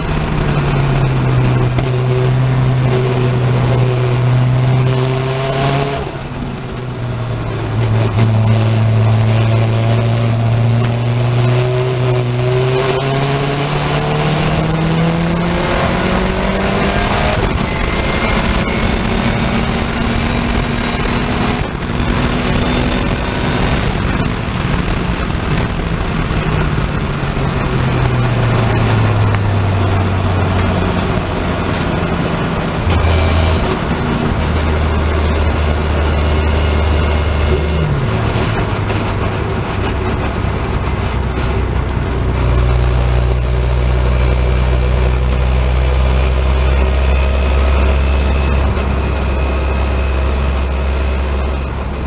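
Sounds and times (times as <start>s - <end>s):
high whine: 0.0s - 52.0s
race car engine at full throttle: 0.0s - 52.0s.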